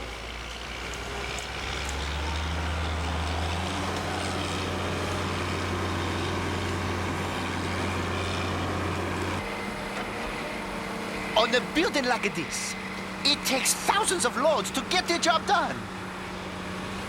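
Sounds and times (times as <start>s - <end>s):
crane diesel engine under load: 0.0s - 17.0s.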